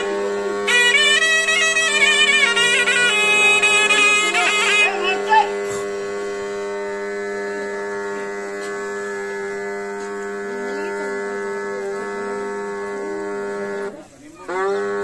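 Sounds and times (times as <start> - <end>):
reed instrument droning note: 0.0 - 15.0.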